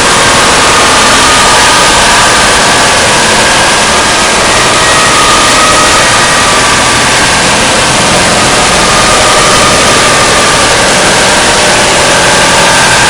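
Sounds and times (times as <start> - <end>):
faint wavering tones: 0.0 - 13.0
harsh static-like noise: 0.0 - 13.0.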